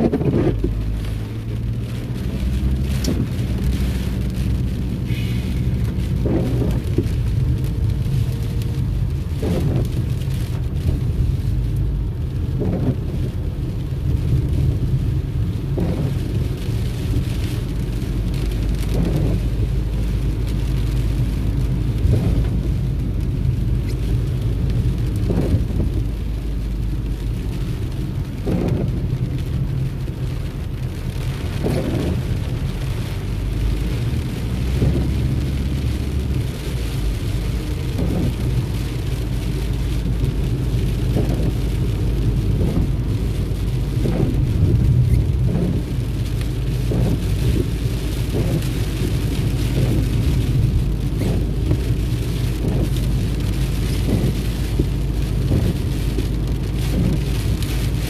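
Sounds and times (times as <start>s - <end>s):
rain on car: 0.0s - 58.0s
tyres rumbling on wet road: 0.0s - 58.0s
windshield wipers sweeping: 0.0s - 58.0s.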